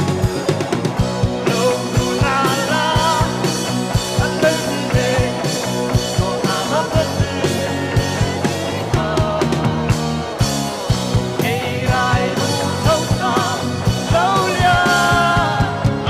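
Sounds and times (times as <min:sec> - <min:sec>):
live band music: 0:00.0 - 0:16.0
man singing: 0:01.4 - 0:09.9, 0:11.4 - 0:16.0.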